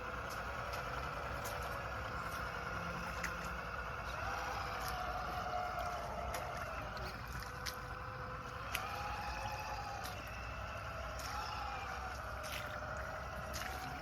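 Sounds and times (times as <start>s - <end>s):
toy car electric motor whining: 1.8s - 14.0s.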